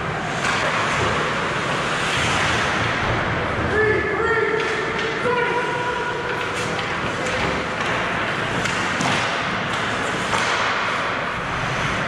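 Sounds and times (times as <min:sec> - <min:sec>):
hubbub of game in hall: 0:00.0 - 0:12.0.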